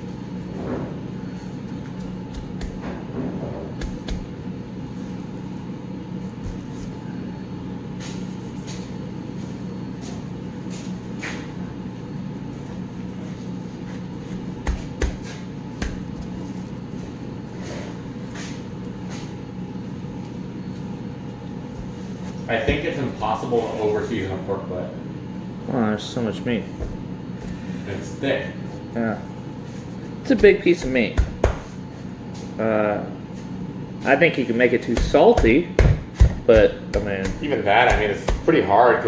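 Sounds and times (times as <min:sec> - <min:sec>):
machinery hum: 0:00.0 - 0:39.0.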